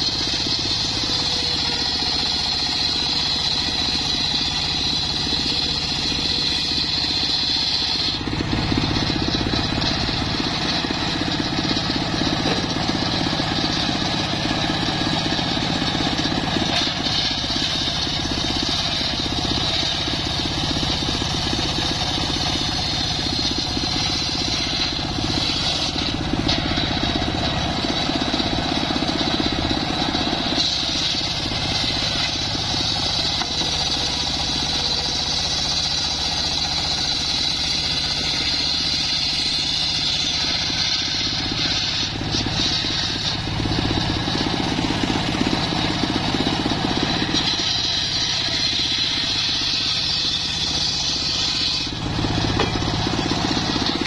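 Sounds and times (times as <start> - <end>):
circular saw blade whining: 0.0 - 54.0
saw motor drone: 0.0 - 54.0.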